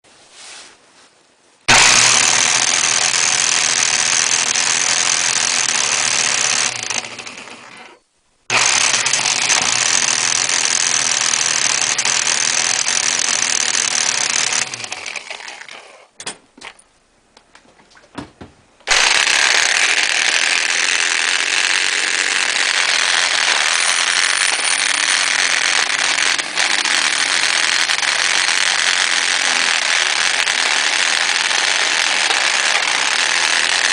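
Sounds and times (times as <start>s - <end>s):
electric motor running noisily: 1.7s - 15.4s, 18.9s - 33.9s.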